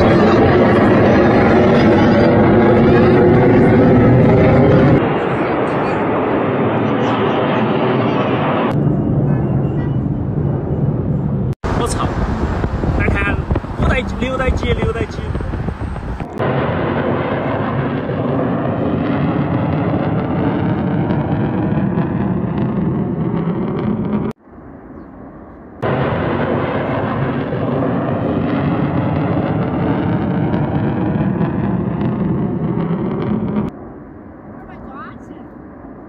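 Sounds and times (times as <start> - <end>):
jet engine roar overhead: 0.0 - 36.0.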